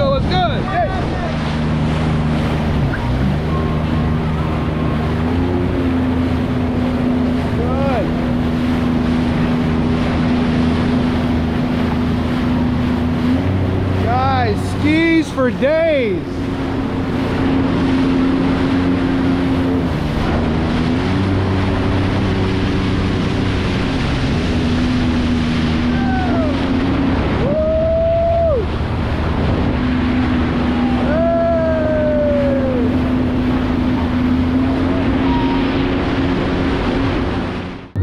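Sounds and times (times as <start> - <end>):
jet ski engine revving: 0.0 - 38.0
jet ski engines humming: 0.0 - 38.0
water noise: 0.0 - 38.0
wind: 0.0 - 38.0.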